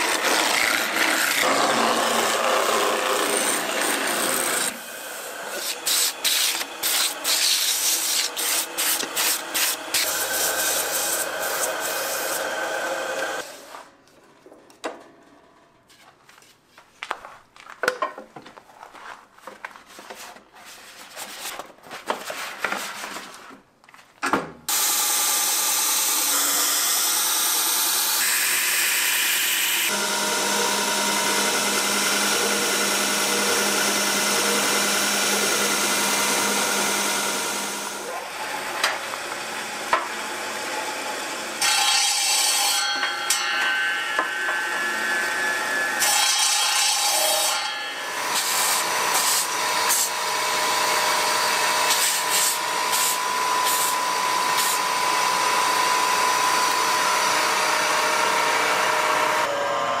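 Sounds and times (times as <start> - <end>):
woodworking machines humming: 0.0 - 13.7, 24.7 - 60.0.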